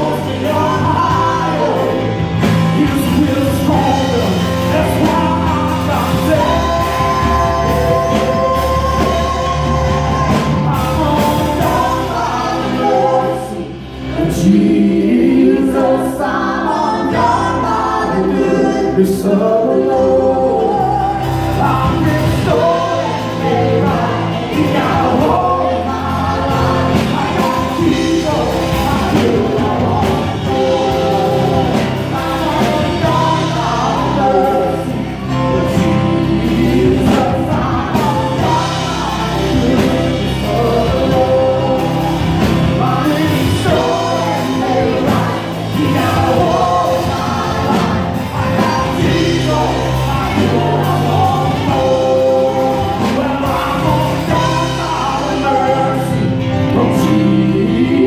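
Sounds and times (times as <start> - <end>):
keyboard: 0.0 - 58.0
women singing gospel song: 0.0 - 58.0.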